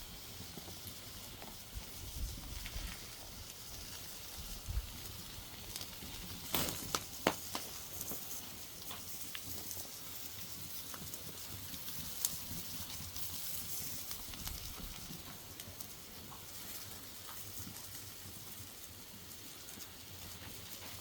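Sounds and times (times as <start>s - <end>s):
fire hissing faintly: 0.0s - 21.0s
wood fire crackling: 0.0s - 21.0s.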